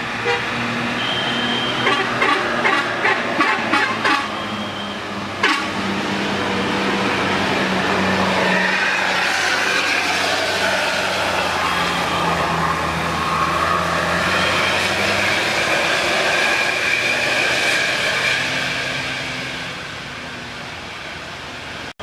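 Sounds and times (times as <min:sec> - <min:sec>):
bus engine driving past: 0:00.0 - 0:21.9.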